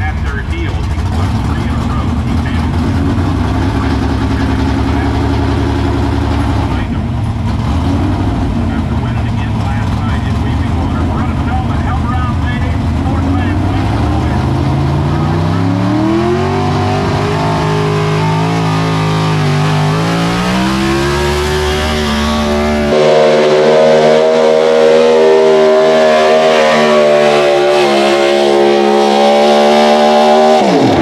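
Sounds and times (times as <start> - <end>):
truck engine at high revs: 0.0 - 31.0.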